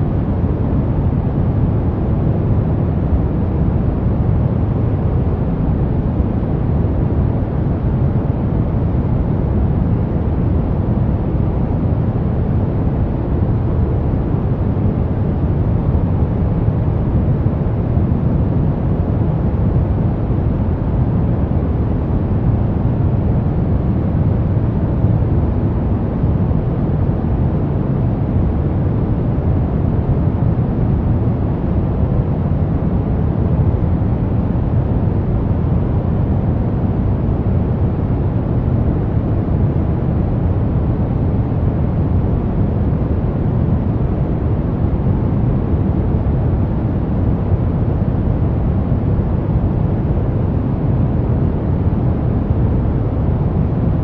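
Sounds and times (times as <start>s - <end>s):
brown noise: 0.0s - 54.0s.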